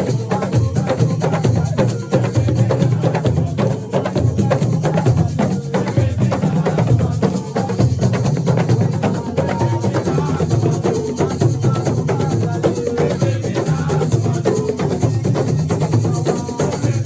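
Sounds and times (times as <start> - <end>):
hand drums and percussion: 0.0 - 17.0.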